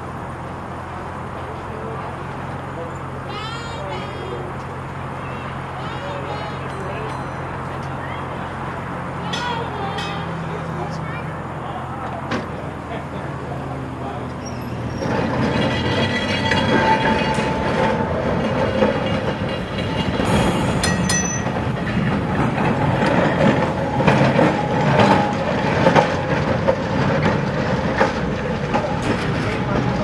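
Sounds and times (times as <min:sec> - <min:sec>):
tram wheels clacking on rails: 0:00.0 - 0:30.0
wheels squealing: 0:00.0 - 0:30.0.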